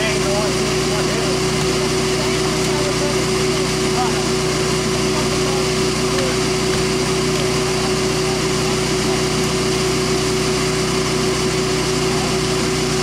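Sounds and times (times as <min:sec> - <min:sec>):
vacuum motor whine: 0:00.0 - 0:13.0.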